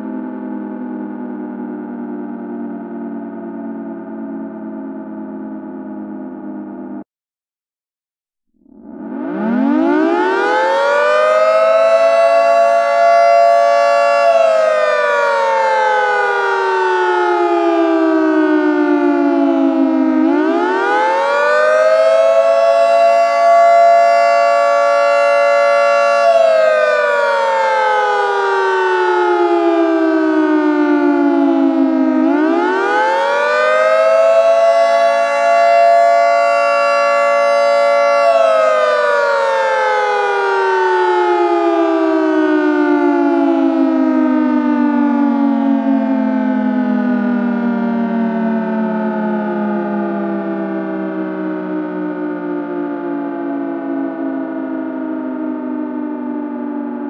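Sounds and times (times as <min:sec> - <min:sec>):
two-tone siren winding up and down: 0:00.0 - 0:07.0, 0:08.6 - 0:57.0.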